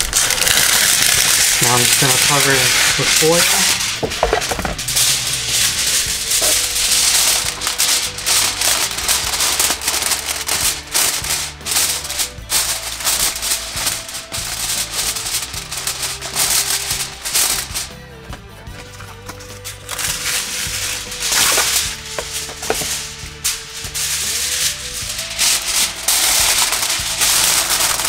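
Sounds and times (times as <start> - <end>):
aluminium foil crinkling: 0.0 - 28.0.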